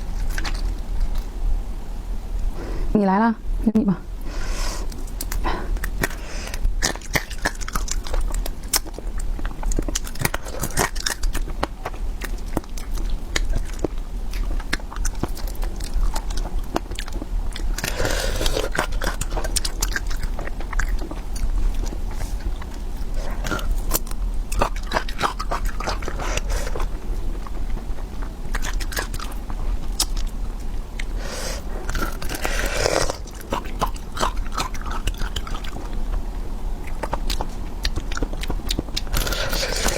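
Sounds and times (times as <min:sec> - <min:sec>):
person chewing crunchy food: 0:00.0 - 0:01.4, 0:04.6 - 0:39.9.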